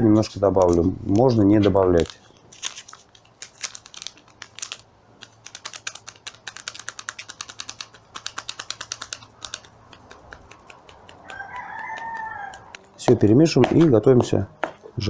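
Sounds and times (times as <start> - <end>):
finger tapping paper sachet: 0.5 - 14.8.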